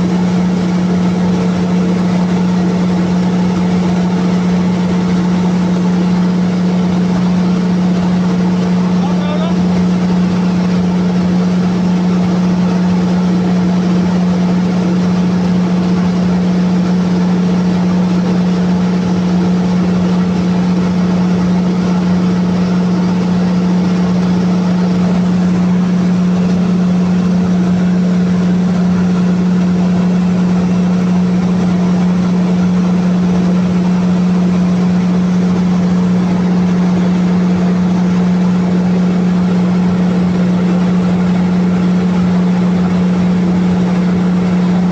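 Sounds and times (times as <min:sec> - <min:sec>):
diesel generator engine drone: 0:00.0 - 0:44.9.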